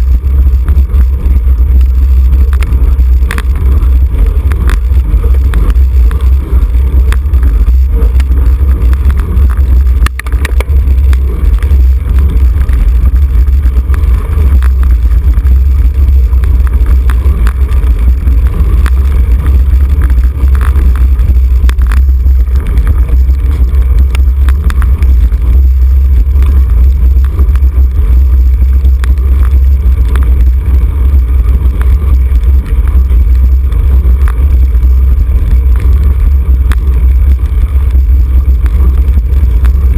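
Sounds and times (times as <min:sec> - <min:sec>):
faint ticks and rattles: 0:00.0 - 0:39.9
wind buffeting microphone: 0:00.0 - 0:39.9.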